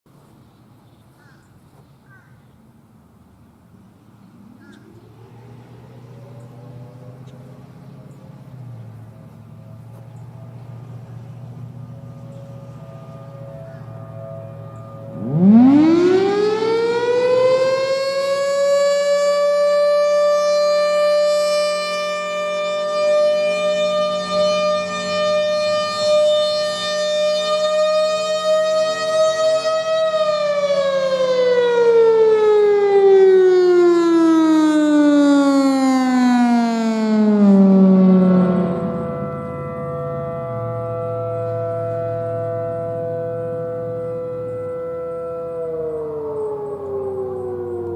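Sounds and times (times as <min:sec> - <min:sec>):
faint distant sirens: 0:00.1 - 0:47.9
warning siren wailing: 0:04.4 - 0:47.9.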